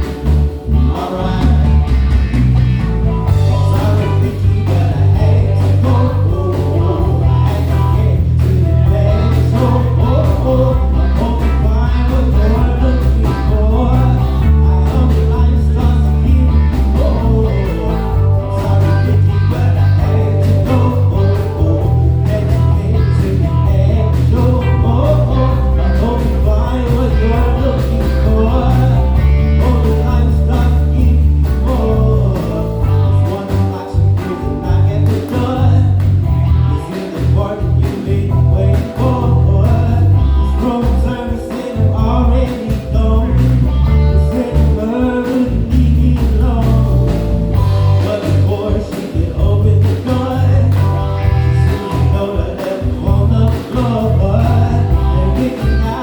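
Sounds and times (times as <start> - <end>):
electric bass line: 0.0 - 56.0
live band music: 0.0 - 56.0.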